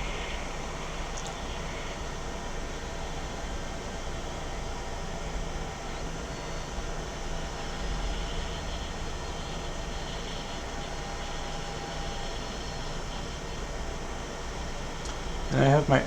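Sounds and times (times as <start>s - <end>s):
hot air station blowing air: 0.0s - 16.0s.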